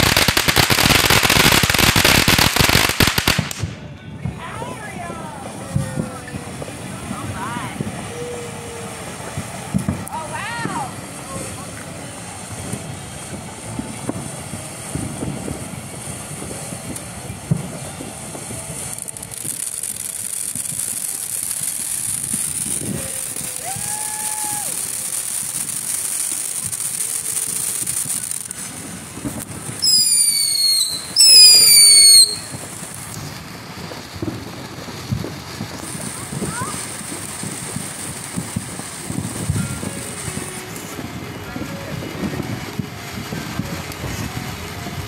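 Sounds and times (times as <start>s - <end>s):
firework fountain hissing and crackling: 0.0s - 45.0s
loud shrill firework whistles: 5.5s - 45.0s.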